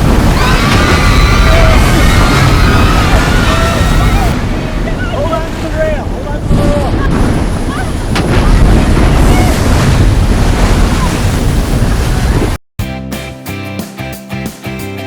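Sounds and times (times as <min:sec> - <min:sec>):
waterfall roaring: 0:00.0 - 0:12.6
wind buffeting microphone: 0:00.0 - 0:12.6.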